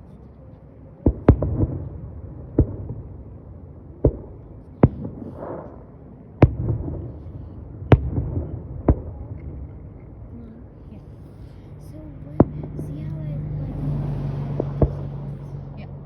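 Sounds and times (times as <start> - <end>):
fireworks bangs with low rumble: 1.0 - 15.6.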